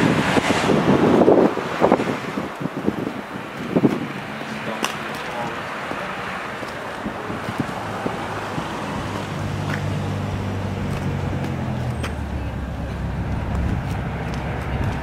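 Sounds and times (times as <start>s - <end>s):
city road traffic: 0.0s - 15.0s
vehicle engine humming low: 0.9s - 15.0s.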